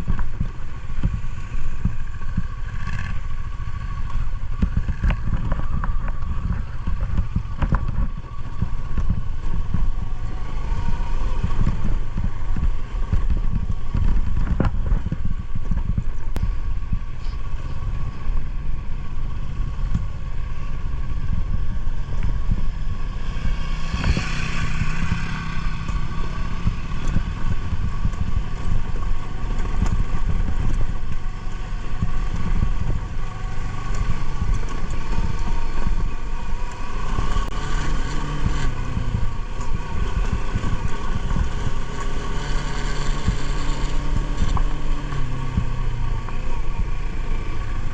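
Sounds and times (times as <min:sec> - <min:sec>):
motorcycle engine rumble: 0:00.0 - 0:47.9.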